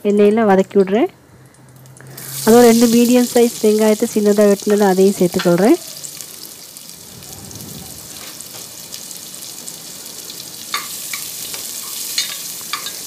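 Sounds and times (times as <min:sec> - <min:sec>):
onions sizzling in hot oil: 0:01.8 - 0:13.0.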